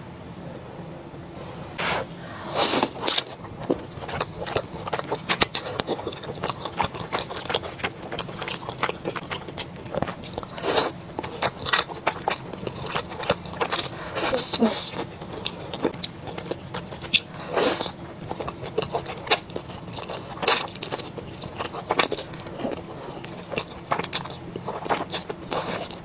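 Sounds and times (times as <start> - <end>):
person chewing crunchy food: 1.8 - 26.0.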